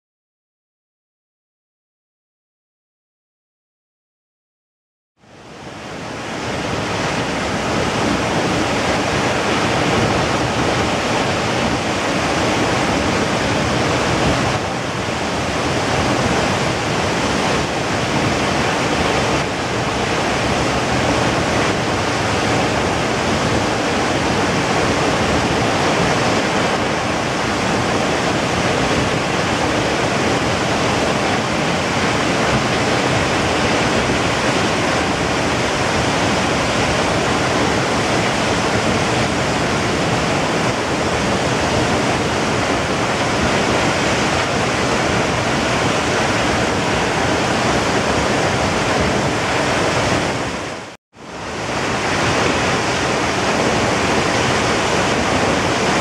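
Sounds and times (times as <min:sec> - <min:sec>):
waterfall rushing: 0:05.2 - 0:56.0.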